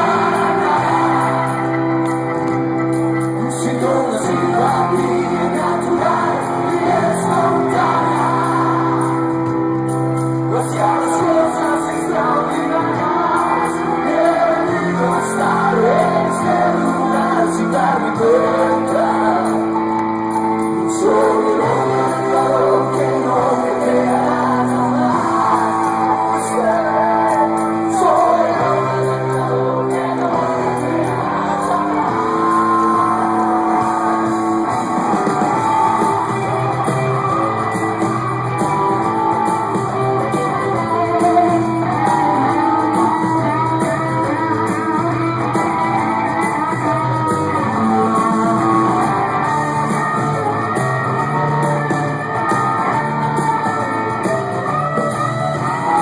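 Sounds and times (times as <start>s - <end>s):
live rock band: 0.0s - 56.0s
person singing: 0.0s - 56.0s.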